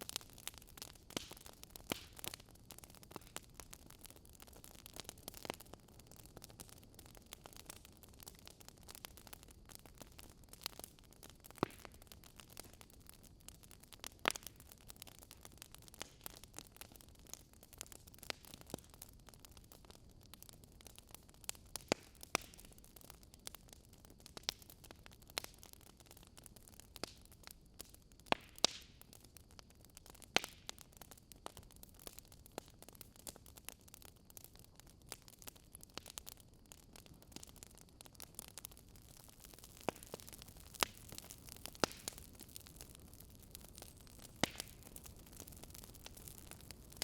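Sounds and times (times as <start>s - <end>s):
low steady hiss: 0.0s - 47.0s
wood fire crackling: 0.0s - 47.0s.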